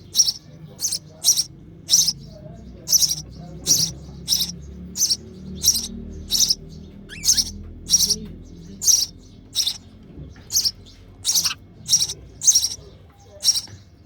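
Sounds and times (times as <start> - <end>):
bird chick begging chirps: 0.0 - 2.2, 2.8 - 9.9, 10.5 - 13.8.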